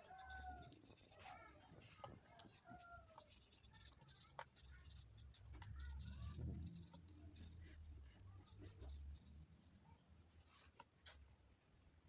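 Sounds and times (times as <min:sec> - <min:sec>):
marker pen ticking on paper: 0:00.0 - 0:12.0.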